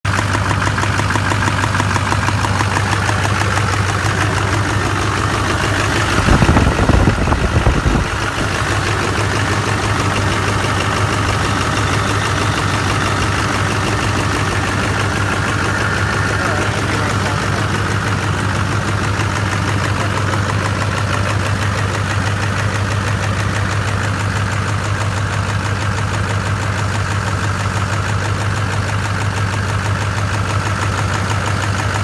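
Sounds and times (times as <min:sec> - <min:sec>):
diesel engine idling with clatter: 0:00.0 - 0:32.0.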